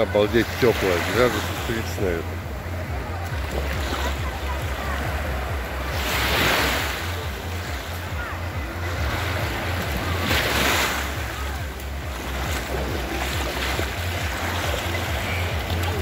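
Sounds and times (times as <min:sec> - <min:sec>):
distant crowd voices: 0:00.0 - 0:16.0
waves breaking on sandy shore: 0:00.0 - 0:16.0.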